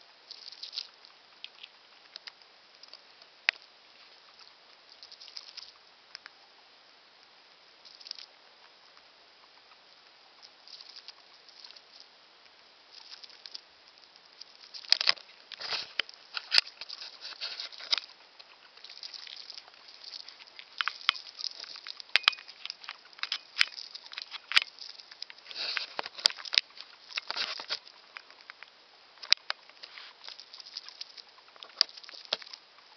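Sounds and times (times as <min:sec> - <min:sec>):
hamster crunching food: 0:00.2 - 0:06.5, 0:07.2 - 0:32.9.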